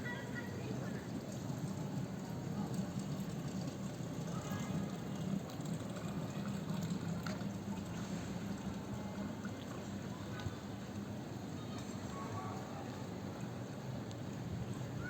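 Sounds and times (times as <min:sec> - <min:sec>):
rainwater running: 0:00.6 - 0:15.0.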